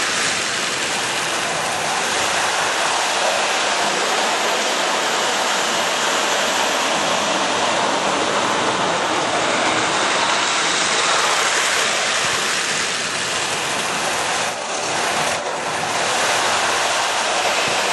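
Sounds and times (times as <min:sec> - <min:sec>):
model train wheels rumbling: 0:00.0 - 0:17.9.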